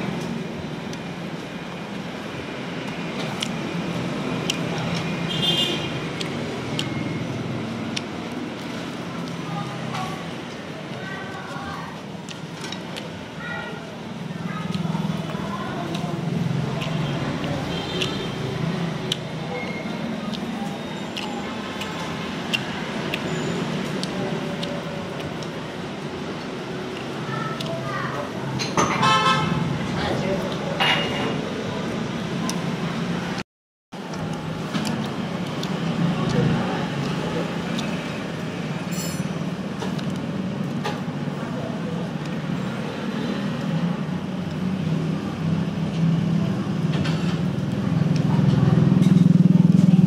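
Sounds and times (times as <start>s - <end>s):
street traffic noise: 0.0s - 50.0s.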